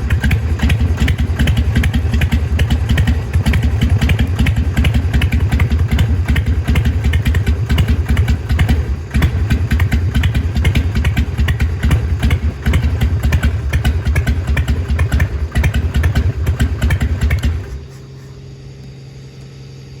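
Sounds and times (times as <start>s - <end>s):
motorcycle engine idling: 0.0s - 20.0s
steady hum: 0.0s - 20.0s.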